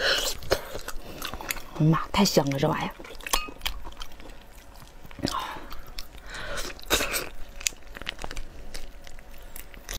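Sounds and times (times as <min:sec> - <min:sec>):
biting and chewing food: 0:00.0 - 0:09.9.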